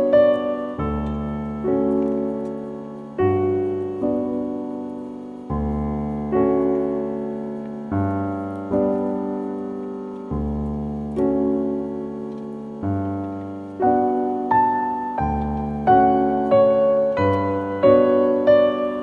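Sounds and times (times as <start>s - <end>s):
slow gentle piano chords: 0.0s - 19.0s.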